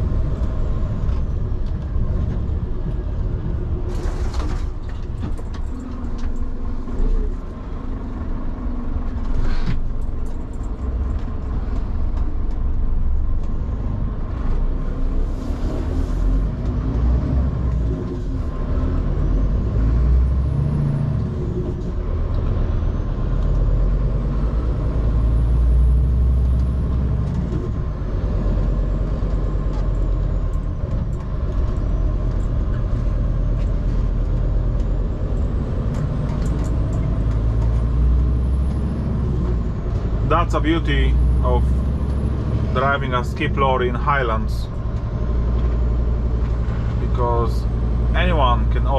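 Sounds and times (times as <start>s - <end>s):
lorry engine rumbling: 0.0s - 48.9s.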